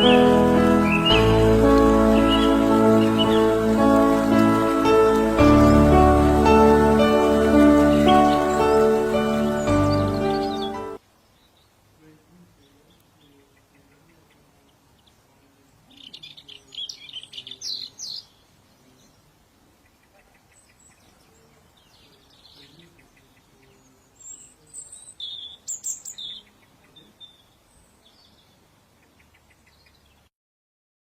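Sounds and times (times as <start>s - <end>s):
songbird chirping and singing: 0.0s - 30.3s.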